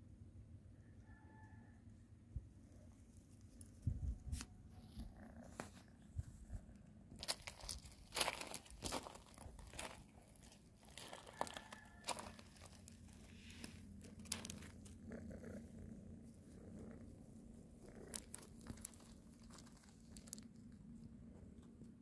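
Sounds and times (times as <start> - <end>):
faint crinkling and rustling: 2.9 - 22.0.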